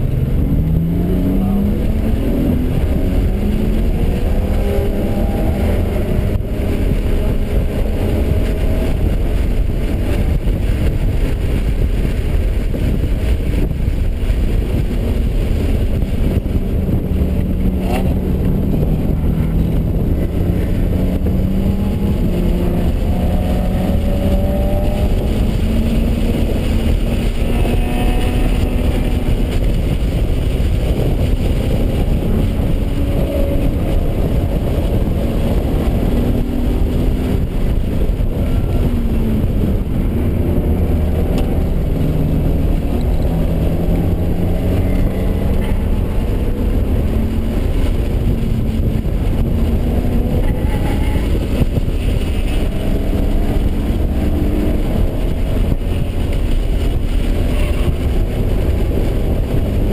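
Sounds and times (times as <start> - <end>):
car engine revving: 0.0 - 59.9
wind and road rumble: 0.0 - 59.9.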